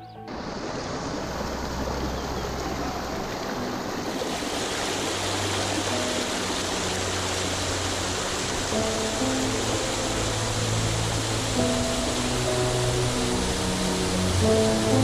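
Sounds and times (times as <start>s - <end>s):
soft background music: 0.0s - 15.0s
rushing water: 0.2s - 15.0s.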